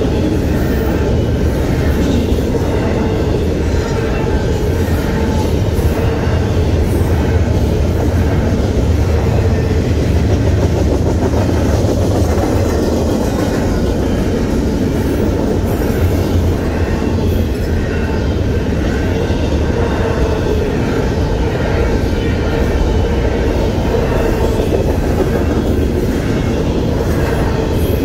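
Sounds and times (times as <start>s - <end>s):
freight train rumbling past: 0.0s - 28.0s
wheels clattering on rails: 0.0s - 28.0s.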